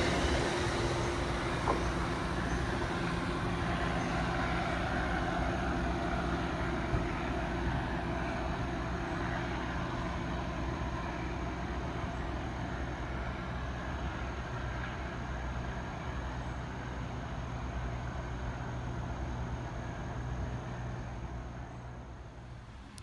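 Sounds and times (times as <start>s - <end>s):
diesel train engine droning: 0.0s - 23.0s.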